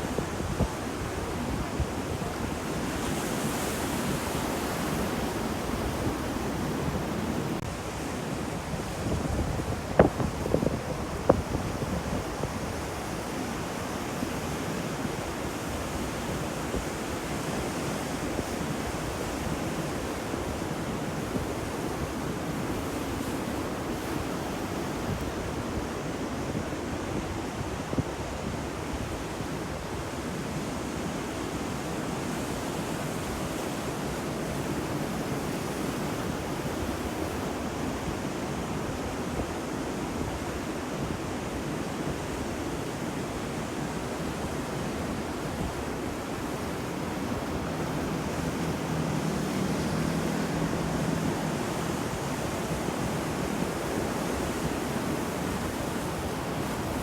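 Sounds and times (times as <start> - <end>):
ocean surf rushing: 0.0 - 27.6, 29.7 - 57.0.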